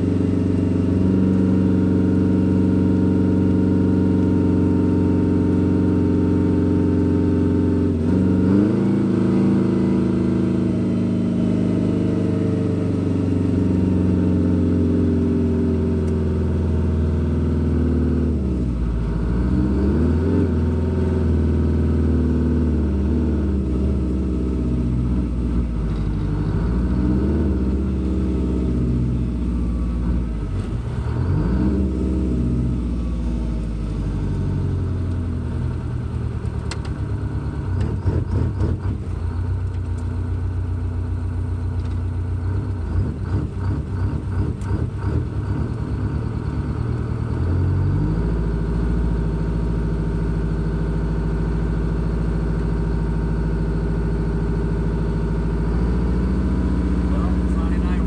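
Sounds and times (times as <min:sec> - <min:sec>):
diesel truck engine revving: 0:00.0 - 0:58.0.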